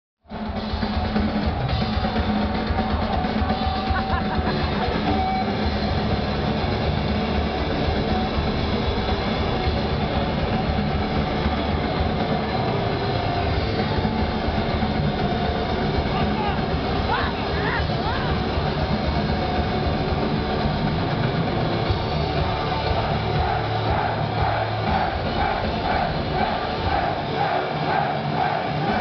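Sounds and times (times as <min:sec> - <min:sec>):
distorted electric guitars: 0:00.2 - 0:29.0
fast drumming: 0:00.3 - 0:29.0.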